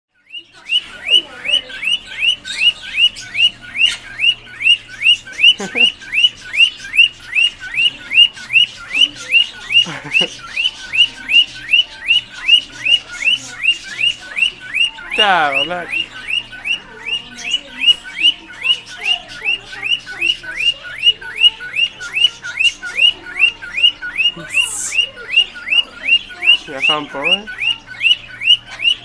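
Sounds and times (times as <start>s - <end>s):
cockatiel chirping: 0.2s - 29.0s.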